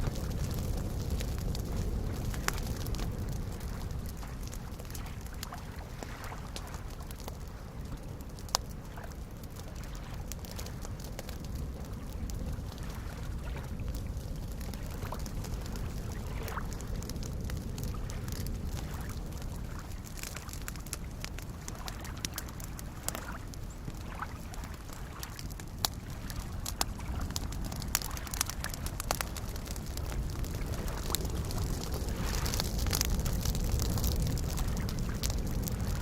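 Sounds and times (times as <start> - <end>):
campfire crackling and popping: 0.0 - 36.0
small waves lapping at shore: 0.1 - 35.8.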